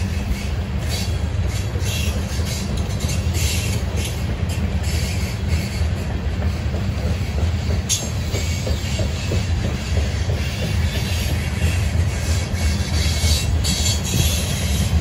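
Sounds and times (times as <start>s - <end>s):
freight train rumble: 0.0s - 15.0s
train wheels clicking: 0.0s - 15.0s.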